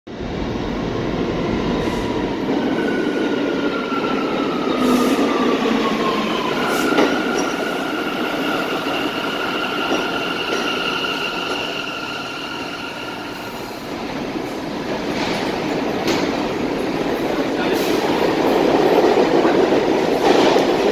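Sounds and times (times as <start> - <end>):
high train whine: 0.1 - 20.9
subway train rumbling: 0.1 - 20.9.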